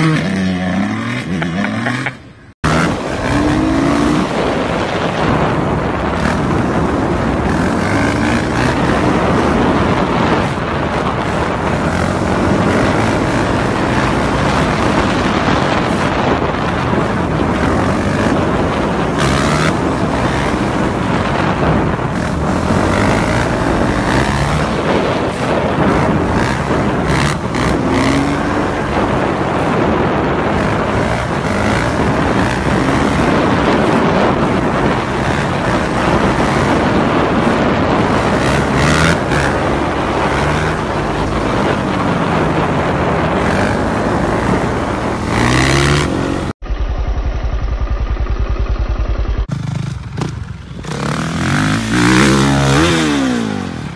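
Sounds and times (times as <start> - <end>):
dirt bike engine revving: 0.0 - 53.9
wind noise on microphone: 0.0 - 53.9.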